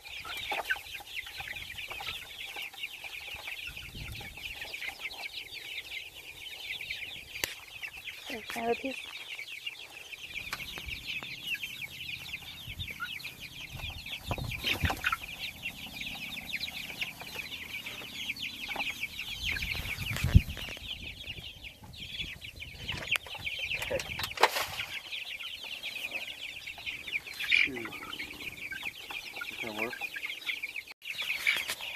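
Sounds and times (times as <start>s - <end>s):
chicks peeping and cheeping: 0.0s - 31.9s.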